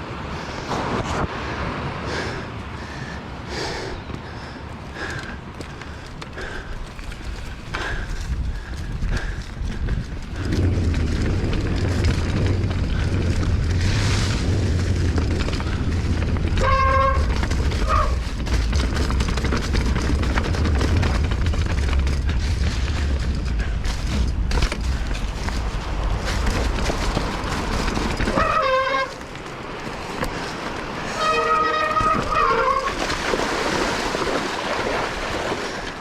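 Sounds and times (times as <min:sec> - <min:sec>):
wind buffeting microphone: 0:00.0 - 0:36.0
tyres rolling over ground: 0:04.1 - 0:36.0.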